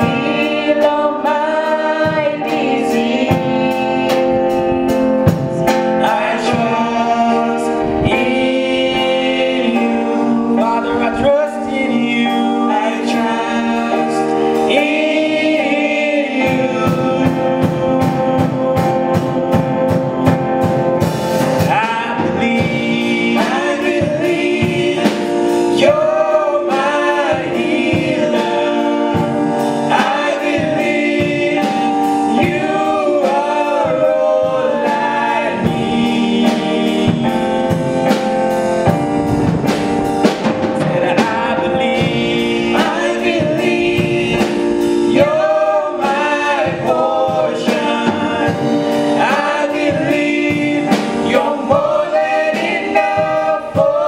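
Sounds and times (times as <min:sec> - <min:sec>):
drum kit beat: 0:00.0 - 0:54.0
keyboard: 0:00.0 - 0:54.0
men singing gospel song: 0:00.0 - 0:54.0.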